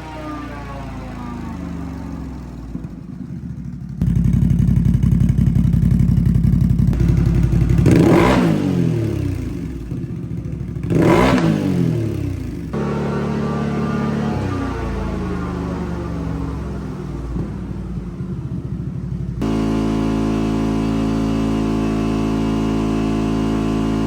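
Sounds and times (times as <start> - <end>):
atv engine idling and revving: 0.0 - 24.0.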